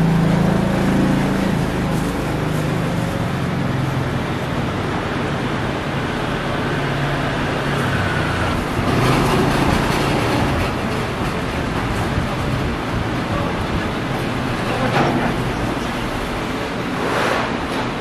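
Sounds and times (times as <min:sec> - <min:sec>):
roadway traffic rumble: 0:00.0 - 0:18.0.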